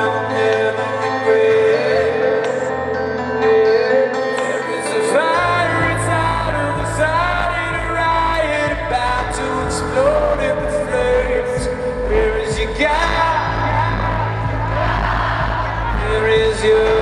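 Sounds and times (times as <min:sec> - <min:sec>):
live rock band music: 0:00.0 - 0:17.0
person singing: 0:00.0 - 0:17.0.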